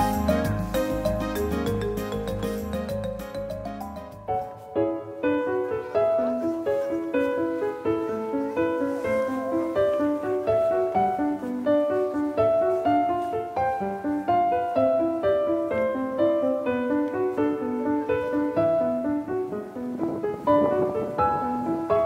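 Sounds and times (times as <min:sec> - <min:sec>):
piano music single notes: 0:00.0 - 0:22.0.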